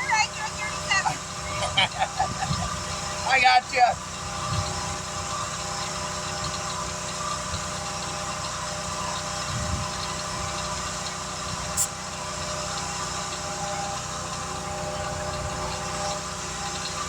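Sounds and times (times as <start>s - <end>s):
motor idling: 0.0s - 17.0s.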